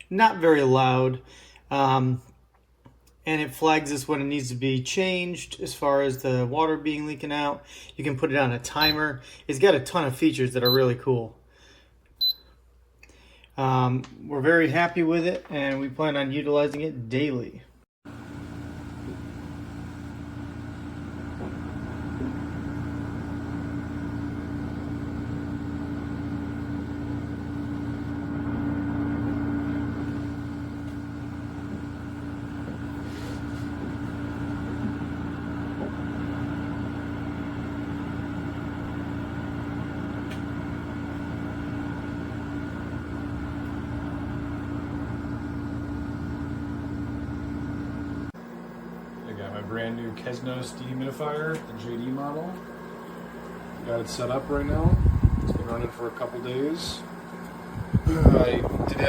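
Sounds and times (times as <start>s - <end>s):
dehumidifier humming: 3.3s - 12.6s, 18.1s - 59.0s.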